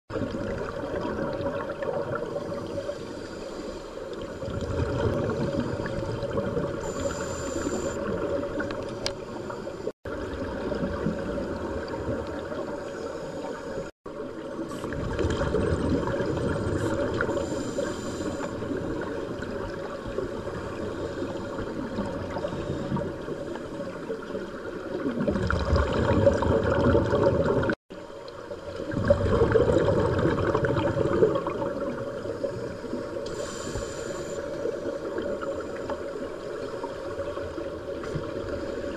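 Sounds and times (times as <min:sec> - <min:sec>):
underwater bubbles gurgling: 0:00.1 - 0:38.9.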